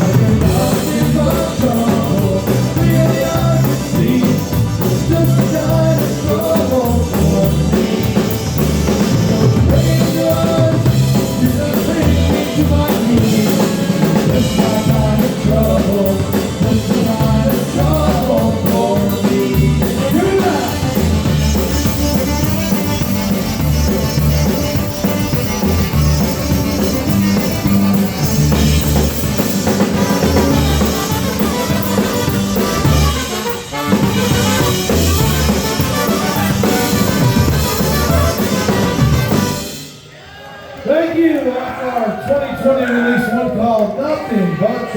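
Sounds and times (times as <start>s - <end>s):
drum kit beat: 0.0s - 40.1s
polka band playing: 0.0s - 40.1s.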